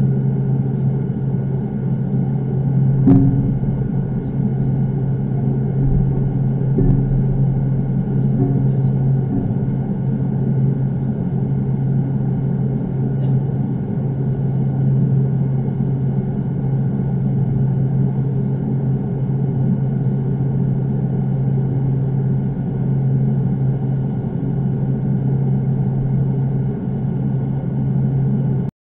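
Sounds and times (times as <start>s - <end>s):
low mechanical hum: 0.0s - 28.7s.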